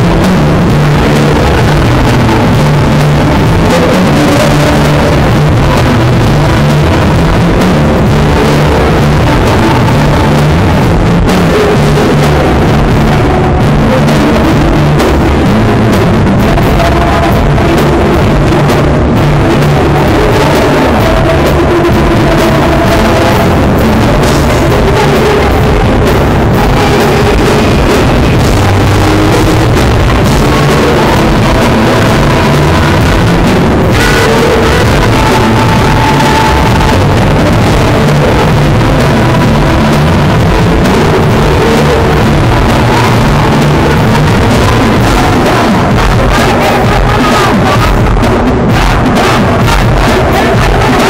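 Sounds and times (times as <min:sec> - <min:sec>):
congas: 0:00.0 - 0:51.0
keyboards: 0:00.0 - 0:51.0
live band playing: 0:00.0 - 0:51.0.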